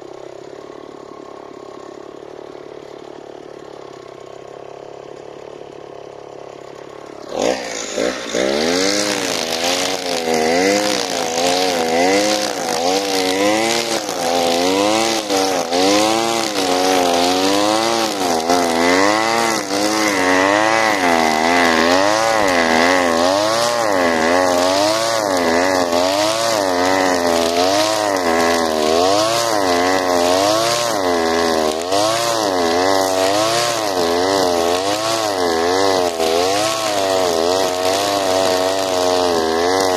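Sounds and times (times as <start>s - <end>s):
gas trimmer engine: 0.0s - 39.9s
trimmer head cutting grass: 0.0s - 39.9s.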